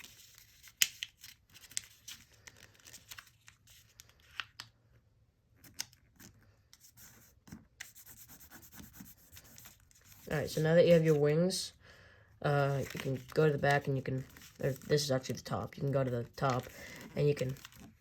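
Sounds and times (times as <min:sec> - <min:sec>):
paper folding and creasing: 0:00.0 - 0:04.6, 0:05.6 - 0:11.2, 0:12.6 - 0:18.0.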